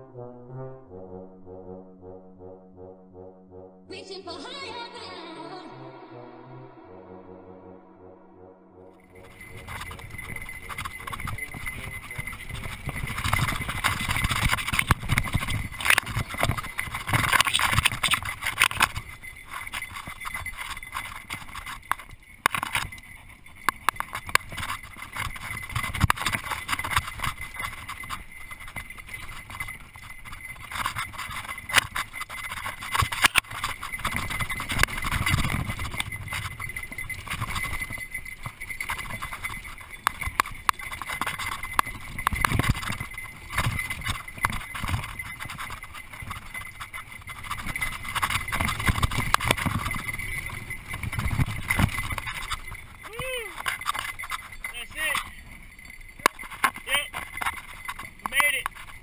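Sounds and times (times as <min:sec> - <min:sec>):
bike rattling and knocking: 0:09.1 - 0:59.0.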